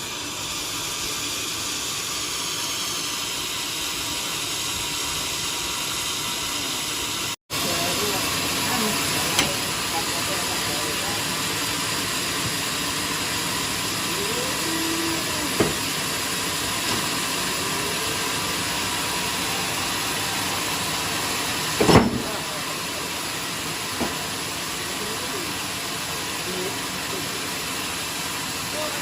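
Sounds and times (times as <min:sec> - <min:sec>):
band saw hissing: 0:00.0 - 0:29.0.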